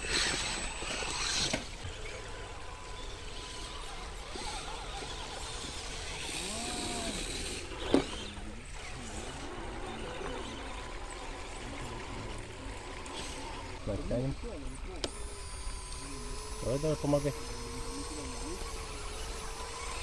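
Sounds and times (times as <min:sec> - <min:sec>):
faint rising and falling whines: 0:00.0 - 0:20.0.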